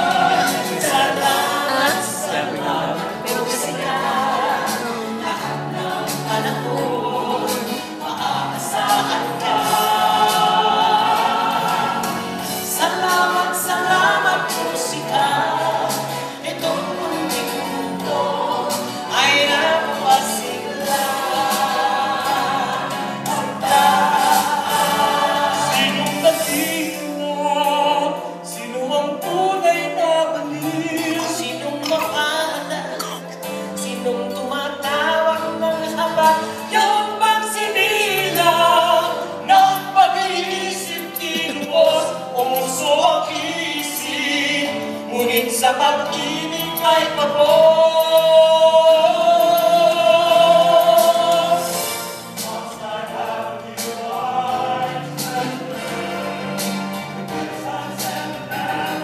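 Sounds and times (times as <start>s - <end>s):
mixed choir singing in harmony: 0.0s - 59.0s.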